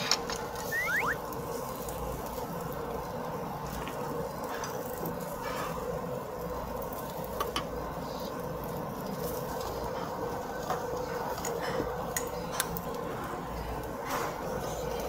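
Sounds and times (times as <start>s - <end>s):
food sizzling on a grill: 0.0s - 15.0s
steady hum: 0.0s - 15.0s.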